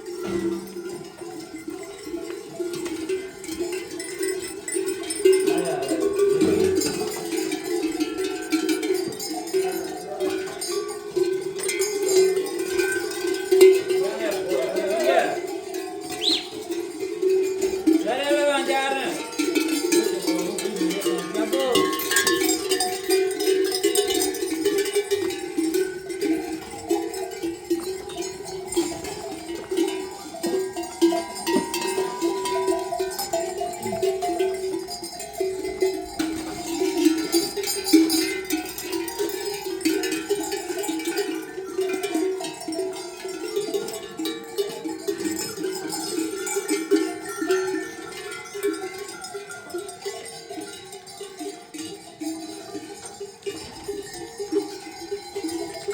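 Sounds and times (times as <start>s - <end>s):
livestock bells clanking: 0.0s - 55.9s.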